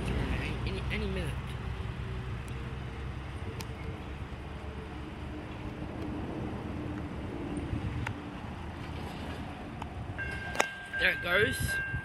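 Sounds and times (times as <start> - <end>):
road vehicles passing: 0.0 - 12.0.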